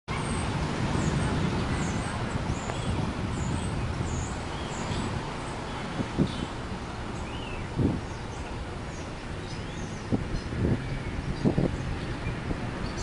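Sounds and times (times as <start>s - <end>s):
road traffic rumble: 0.1s - 13.0s.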